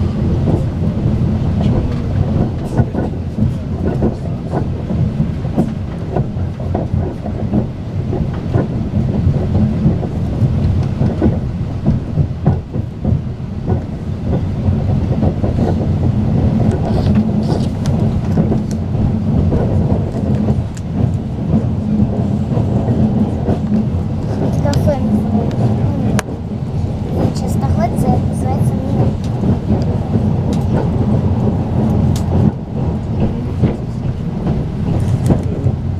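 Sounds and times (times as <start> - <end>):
track clicks and knocks: 0.0 - 35.9
train wheels rumbling: 0.0 - 35.9.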